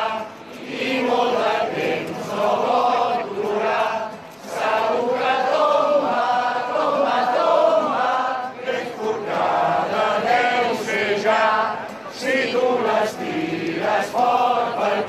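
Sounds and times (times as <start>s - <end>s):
crowd chanting: 0.0s - 15.0s.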